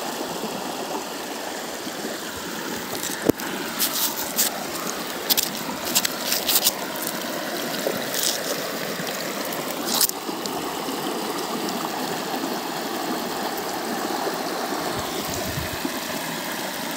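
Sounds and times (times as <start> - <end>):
stream rushing over rocks: 0.0 - 16.9.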